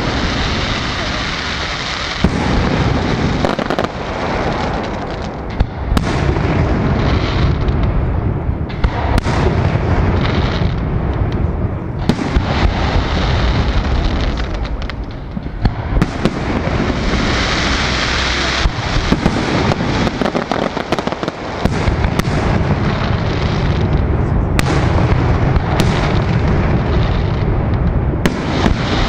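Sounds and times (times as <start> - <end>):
firework shells booming: 0.0 - 29.0
sharp firework cracks: 0.0 - 29.0.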